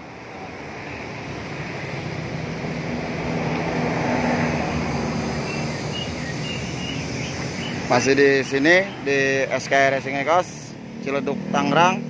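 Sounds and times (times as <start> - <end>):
low engine hum: 0.0 - 12.0
vehicle rushing noise: 0.0 - 12.0.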